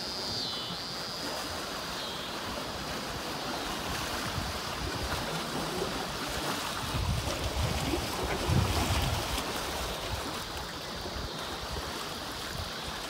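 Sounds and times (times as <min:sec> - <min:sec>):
lake waves washing on rocks: 0:00.0 - 0:13.0
wind on microphone: 0:00.1 - 0:13.0.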